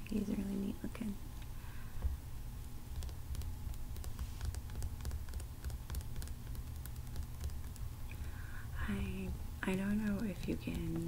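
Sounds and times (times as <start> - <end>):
low recording hum: 0.0 - 11.0.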